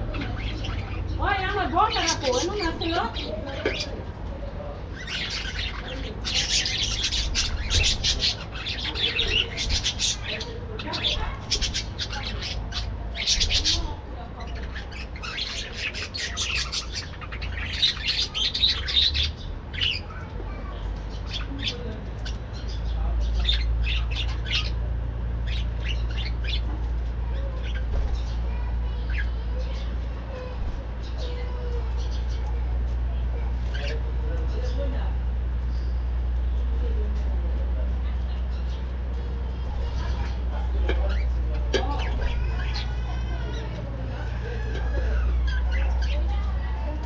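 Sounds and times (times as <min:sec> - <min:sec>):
budgerigars chattering and squawking: 0:00.0 - 0:47.0.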